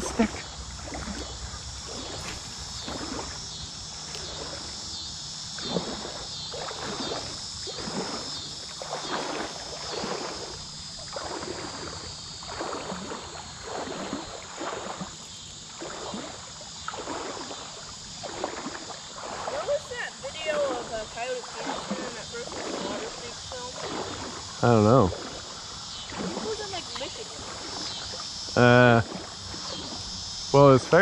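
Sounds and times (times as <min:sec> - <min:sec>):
water sloshing from wading: 0:00.0 - 0:31.0.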